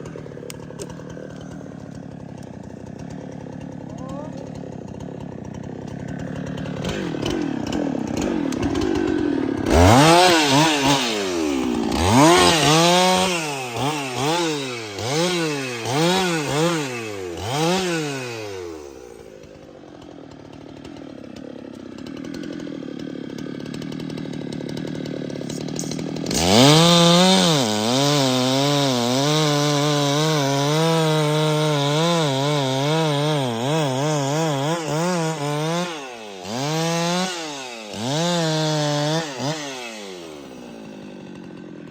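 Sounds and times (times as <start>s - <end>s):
chainsaw revving and cutting wood: 0.0s - 41.9s.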